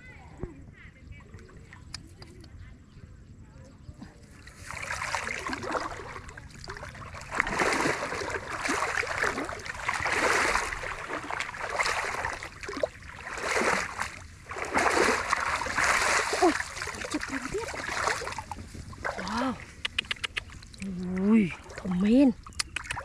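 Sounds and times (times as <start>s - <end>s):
water splashing and sloshing: 4.1s - 23.0s.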